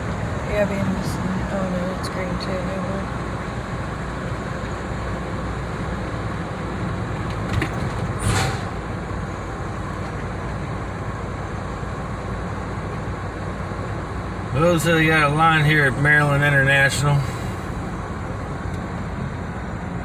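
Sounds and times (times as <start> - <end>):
truck rumble inside cab: 0.0 - 20.0.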